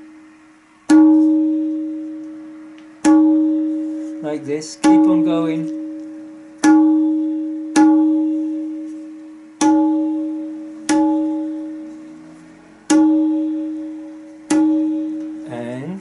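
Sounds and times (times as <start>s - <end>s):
tabla strokes ringing: 0.0s - 15.6s.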